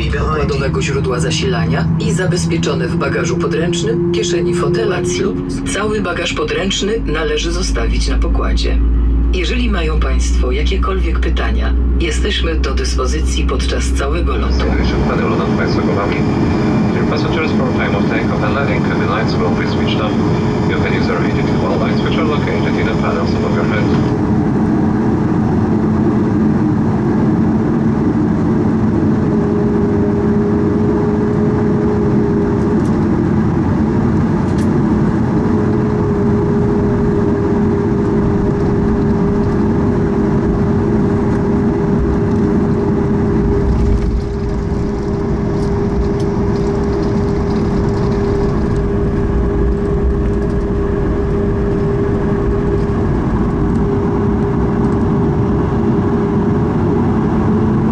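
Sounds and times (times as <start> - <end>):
aircraft cabin rumble: 0.0 - 57.9
deeper rumble: 0.0 - 57.9
jet engines humming: 0.0 - 57.9.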